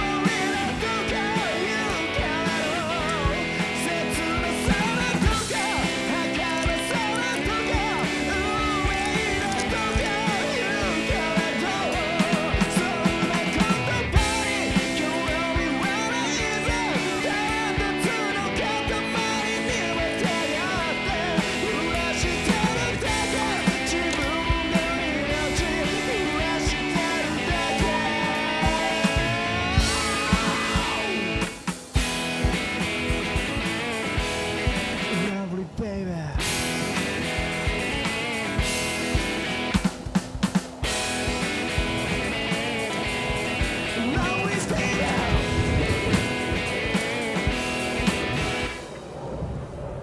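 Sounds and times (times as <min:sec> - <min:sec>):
rock song with singing: 0:00.0 - 0:49.2.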